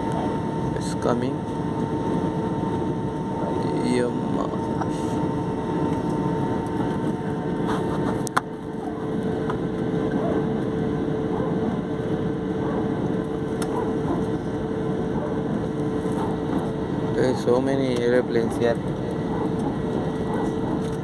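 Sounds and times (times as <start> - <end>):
jet engine cabin drone: 0.0 - 21.0.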